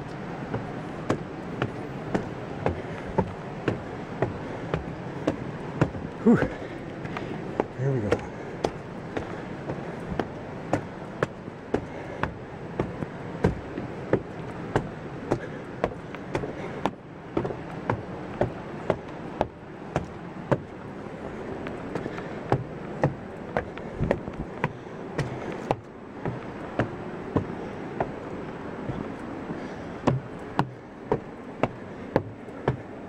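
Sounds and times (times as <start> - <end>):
footsteps on stairs: 0.0 - 33.0
steady rushing noise: 0.0 - 33.0.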